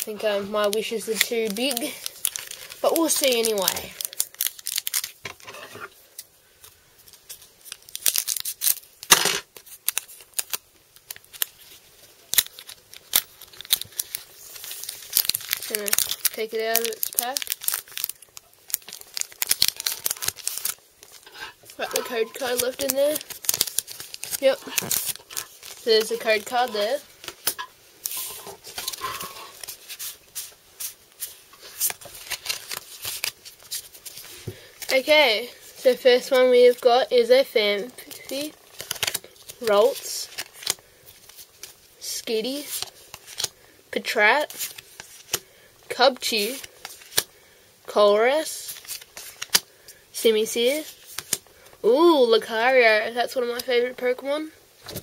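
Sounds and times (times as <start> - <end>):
foil wrapper crinkling: 0.0 - 36.9, 37.9 - 47.5, 48.5 - 50.0, 50.6 - 51.8.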